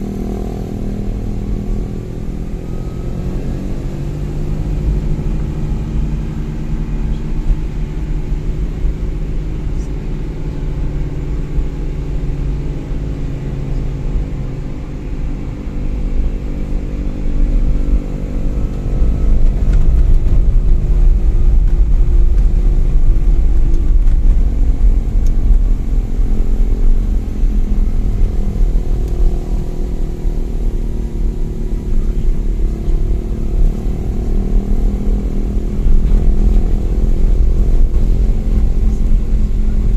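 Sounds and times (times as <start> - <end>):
engine rumbling: 0.0 - 39.9.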